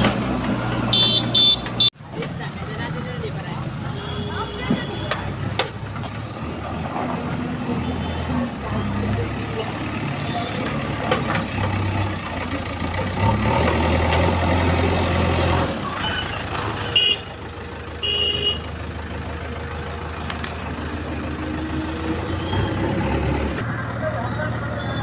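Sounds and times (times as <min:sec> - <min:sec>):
diesel engines under load: 0:00.0 - 0:25.0.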